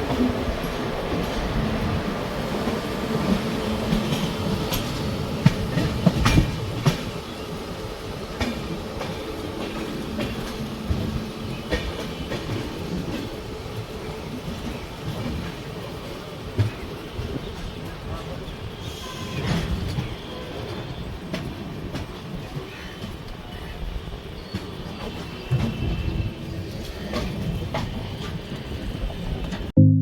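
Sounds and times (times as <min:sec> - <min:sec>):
train wheels clattering over joints: 0:00.0 - 0:07.7, 0:08.3 - 0:29.7.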